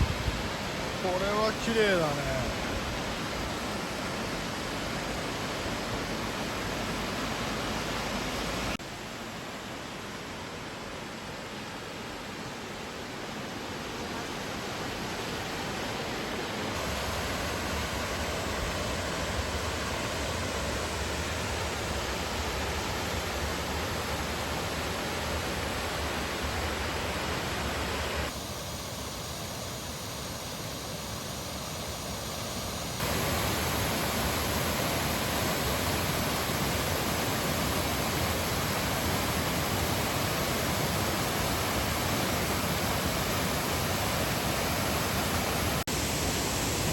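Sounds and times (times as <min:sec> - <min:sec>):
stream and waterfalls rushing: 0:00.0 - 0:46.9.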